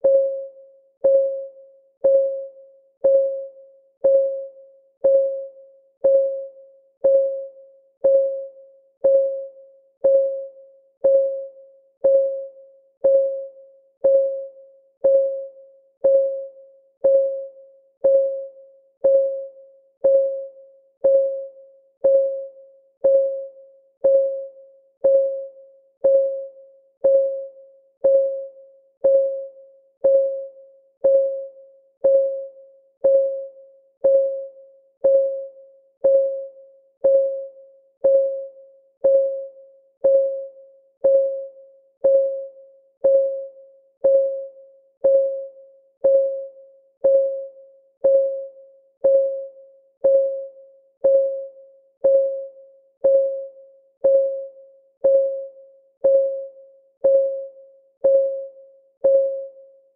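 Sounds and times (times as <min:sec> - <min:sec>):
countdown timer ticking: 0:01.0 - 0:59.6.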